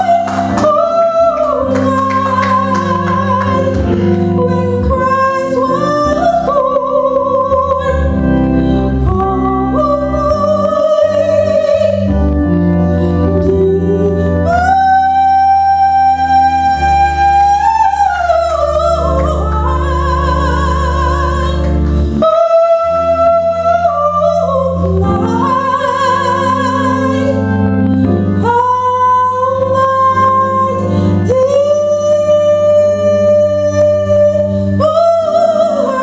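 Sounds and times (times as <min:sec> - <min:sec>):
sustained keyboard accompaniment: 0:00.0 - 0:36.0.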